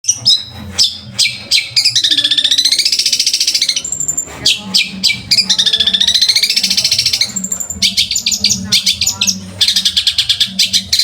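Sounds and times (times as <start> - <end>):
shrike singing: 0.0 - 11.0.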